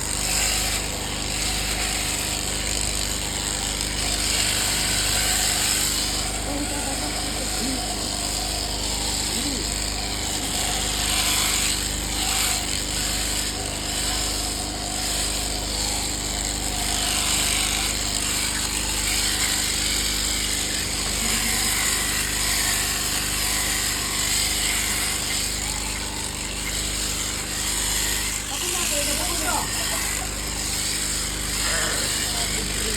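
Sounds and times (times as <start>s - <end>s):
electric shearing machine buzzing: 0.0s - 32.9s.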